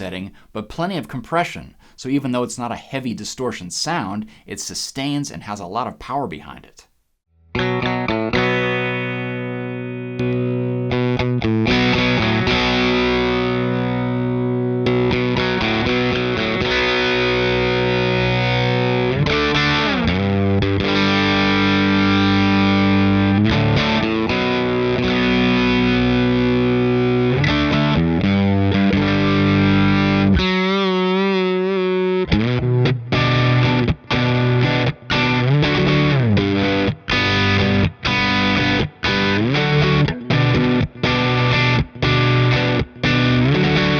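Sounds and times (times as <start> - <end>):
distorted electric guitar lead: 7.6 - 43.9.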